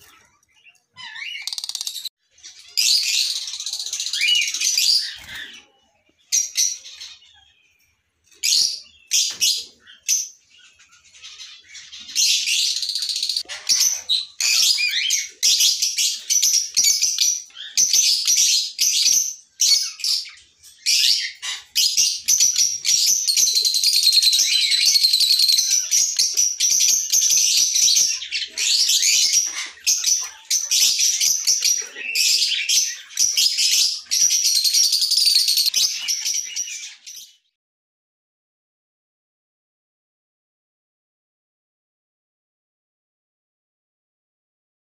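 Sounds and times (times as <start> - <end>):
lovebirds chattering: 0.0 - 7.7, 8.4 - 37.0.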